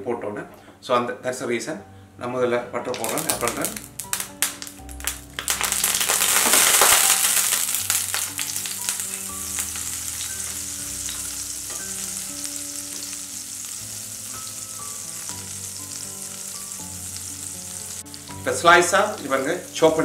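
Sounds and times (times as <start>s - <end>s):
butter sizzling in a pan: 3.0s - 20.0s.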